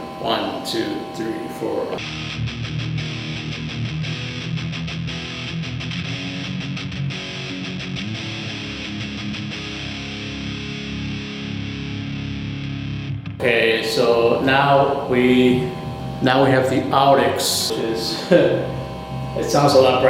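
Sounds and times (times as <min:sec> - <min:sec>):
electric guitar riff: 0:00.0 - 0:20.0.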